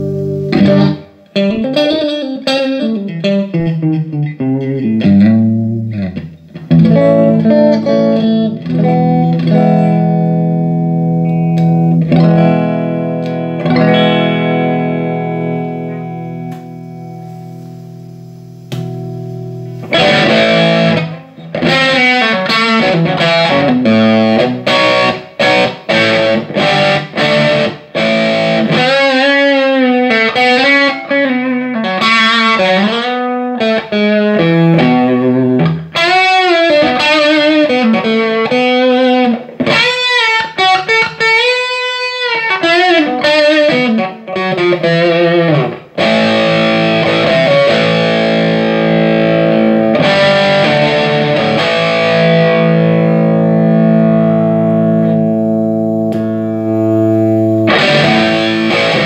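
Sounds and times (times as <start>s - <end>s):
electric guitar chords: 0.0s - 59.0s.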